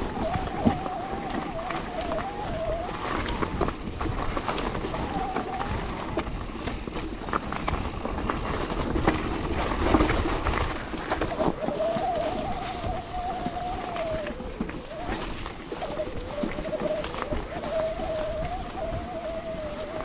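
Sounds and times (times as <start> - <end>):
bike rattling and knocking: 0.0 - 20.0
tyres rolling over dirt: 0.0 - 20.0.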